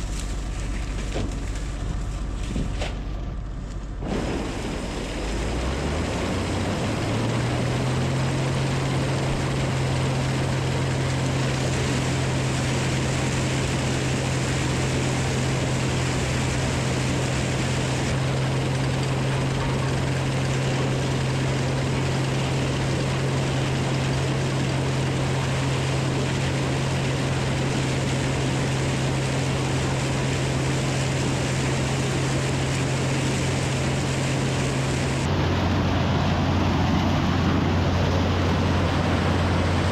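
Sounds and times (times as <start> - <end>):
broad rushing noise: 0.0 - 39.9
farm machine engine droning: 0.0 - 39.9.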